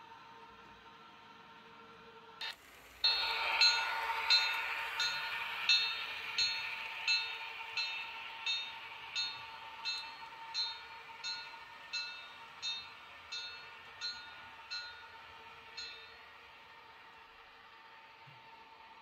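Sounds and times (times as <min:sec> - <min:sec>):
model train hum: 0:00.0 - 0:19.0.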